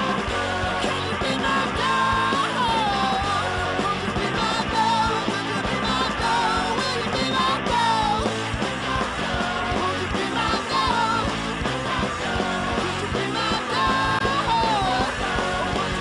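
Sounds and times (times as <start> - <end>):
person singing: 0.0 - 16.0
punk rock band playing: 0.0 - 16.0.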